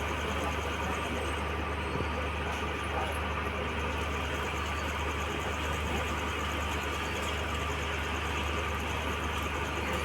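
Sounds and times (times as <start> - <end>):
passenger train rumble: 0.0 - 10.0.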